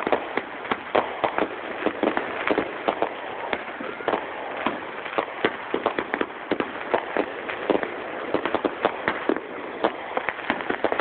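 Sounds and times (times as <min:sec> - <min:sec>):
fireworks crackle: 0:00.0 - 0:11.0
fireworks popping: 0:00.0 - 0:11.0.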